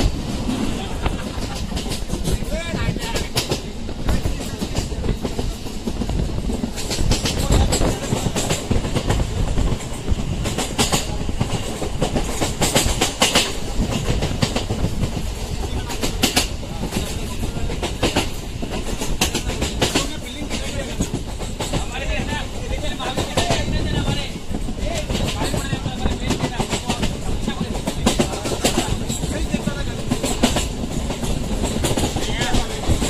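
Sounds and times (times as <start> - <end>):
train interior rumble: 0.0 - 33.0
wheel clatter over rail joints: 0.0 - 33.0.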